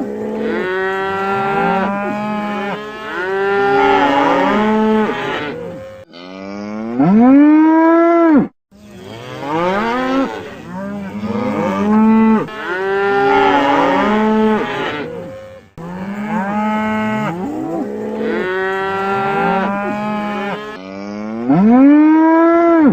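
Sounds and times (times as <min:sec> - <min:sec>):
cattle mooing: 0:00.0 - 0:22.9.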